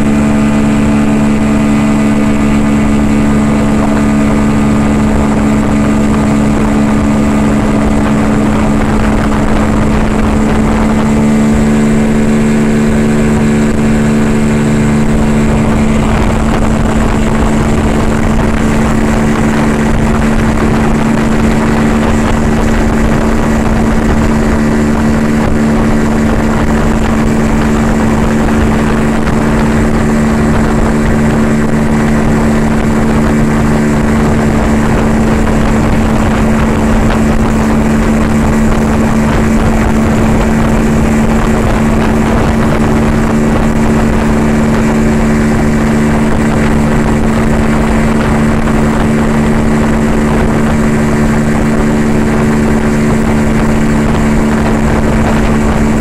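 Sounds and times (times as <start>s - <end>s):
outboard motor running: 0.0s - 56.0s
water churning in wake: 0.0s - 56.0s.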